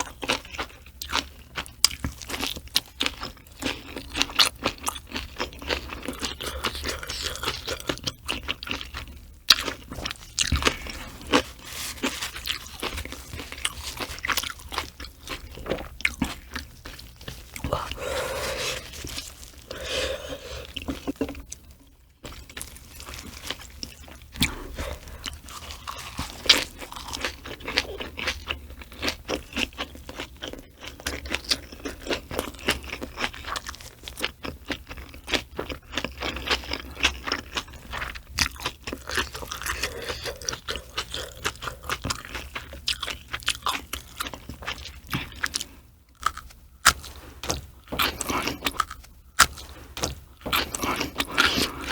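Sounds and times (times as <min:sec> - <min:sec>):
person chewing with crunches: 0:00.0 - 0:51.9.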